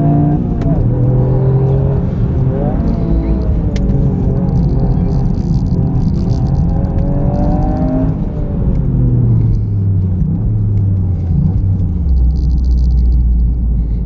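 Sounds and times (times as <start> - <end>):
car engine accelerating: 0.0 - 14.0
road rumble: 0.0 - 14.0.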